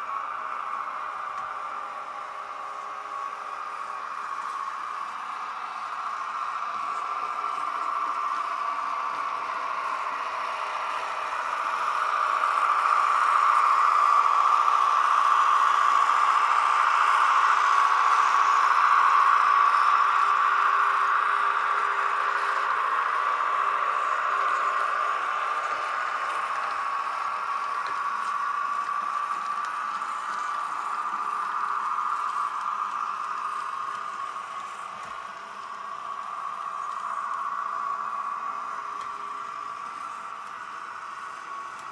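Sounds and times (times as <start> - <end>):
model tram whirring on track: 0.0 - 41.9.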